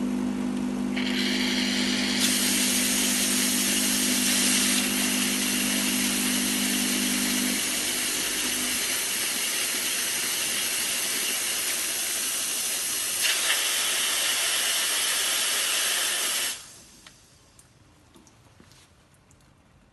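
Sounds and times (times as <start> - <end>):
steam wand hissing: 1.0 - 17.0.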